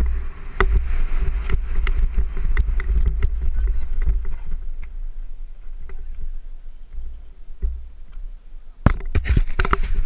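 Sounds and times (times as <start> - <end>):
bike rolling over gravel: 0.0 - 8.3, 9.1 - 10.0
wind rumble on microphone: 0.0 - 10.0.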